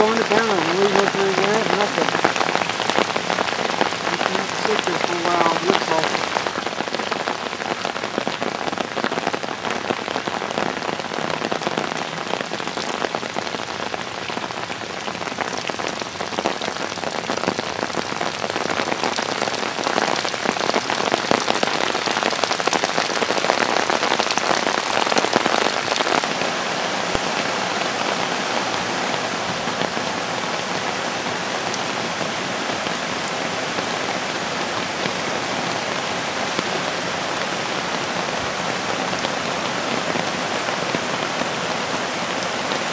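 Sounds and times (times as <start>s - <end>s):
creek water rushing: 0.0s - 42.9s.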